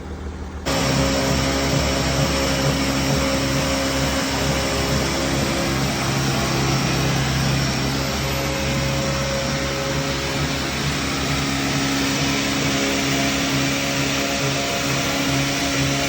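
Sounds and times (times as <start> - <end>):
sawmill saw cutting log: 0.7 - 16.0.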